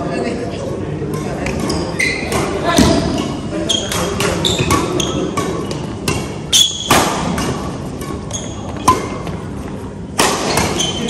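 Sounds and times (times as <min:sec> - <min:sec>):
crowd chatter: 0:00.0 - 0:11.0
rackets hitting shuttlecock: 0:01.1 - 0:11.0
shoes squeaking on floor: 0:01.2 - 0:09.8, 0:10.5 - 0:11.0.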